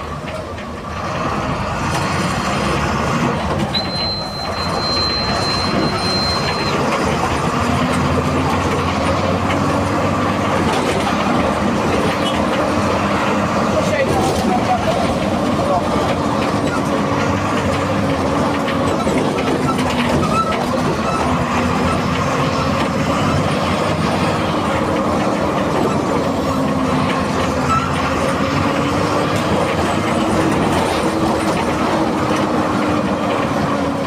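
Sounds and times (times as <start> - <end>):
diesel bus engine droning: 0.0 - 34.0.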